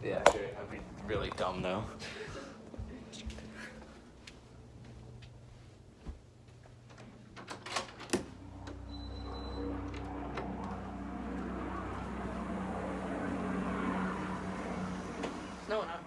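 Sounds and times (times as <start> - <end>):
low outdoor hum: 0.0 - 16.0.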